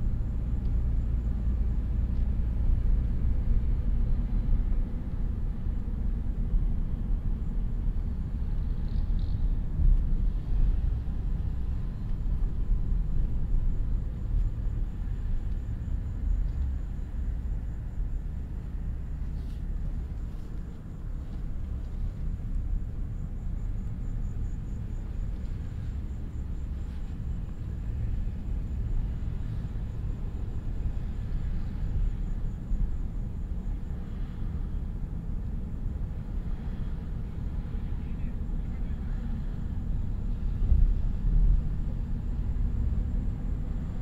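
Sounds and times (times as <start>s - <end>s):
car tyre and road noise: 0.0s - 44.0s.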